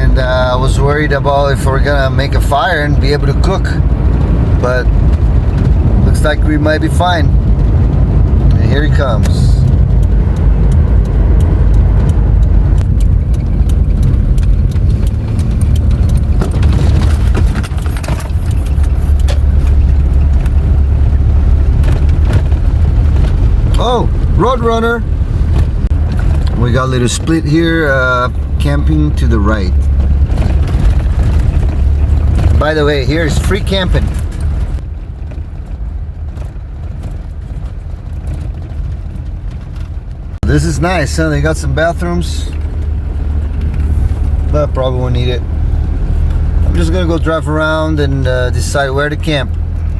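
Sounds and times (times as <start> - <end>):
engine and tyre rumble: 0.0 - 49.9.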